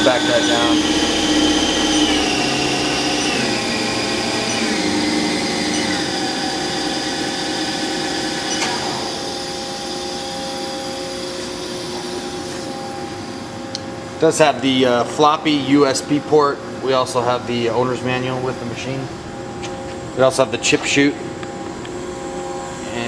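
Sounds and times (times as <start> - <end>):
lathe spindle whine: 0.0 - 23.0
machine hum: 0.0 - 23.0.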